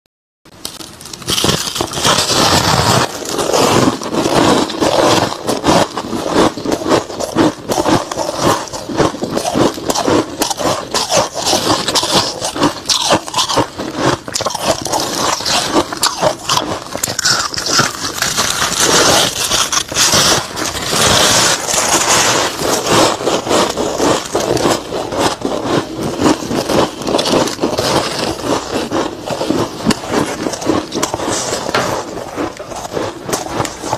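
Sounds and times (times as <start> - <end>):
frost being chewed crunching: 0.6 - 33.9.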